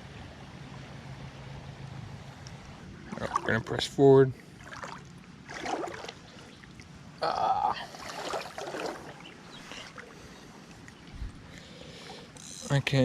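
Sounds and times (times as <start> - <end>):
wading through shallow water: 2.2 - 13.0.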